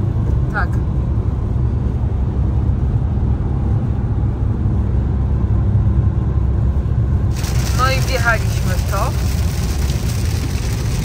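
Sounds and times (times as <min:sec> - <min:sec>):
car driving at motorway speed: 0:00.0 - 0:11.0.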